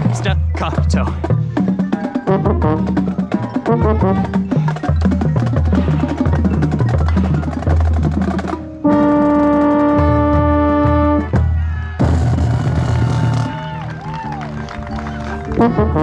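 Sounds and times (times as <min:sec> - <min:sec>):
marching band playing: 0:00.0 - 0:16.0
percussion and drums: 0:00.0 - 0:16.0.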